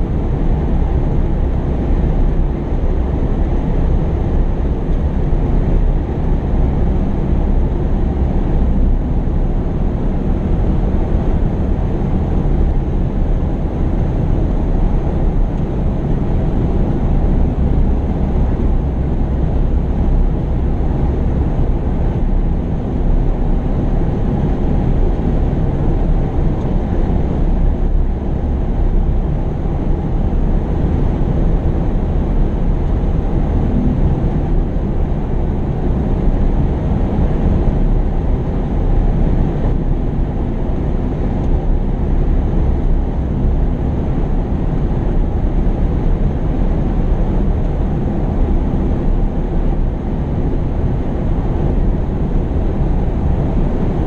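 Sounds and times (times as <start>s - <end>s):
diesel machinery engine rumble: 0.0s - 54.0s.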